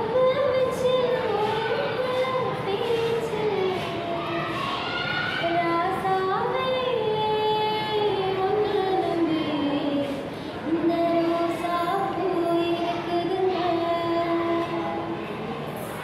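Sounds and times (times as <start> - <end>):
girl singing: 0.0 - 15.2.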